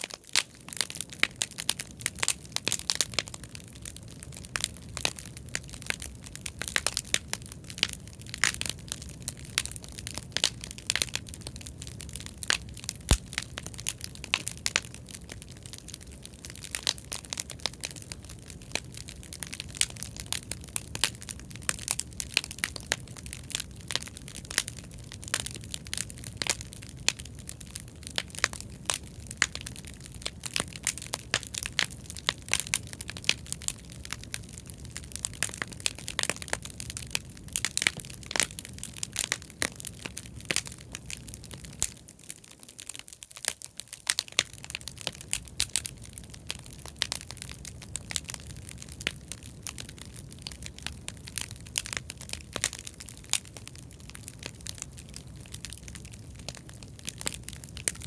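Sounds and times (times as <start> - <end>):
bonfire crackling and popping: 0.0 - 58.0
low rumble of flame: 0.0 - 58.0.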